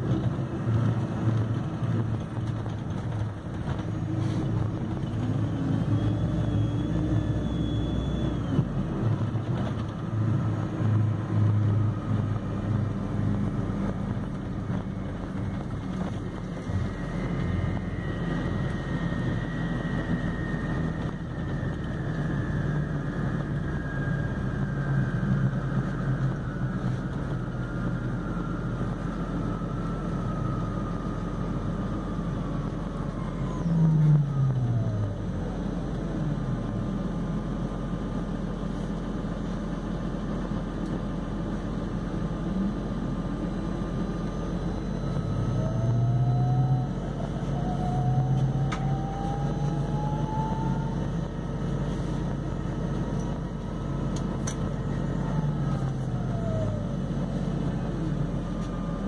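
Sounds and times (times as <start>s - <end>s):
bus road and engine rumble: 0.0s - 59.0s.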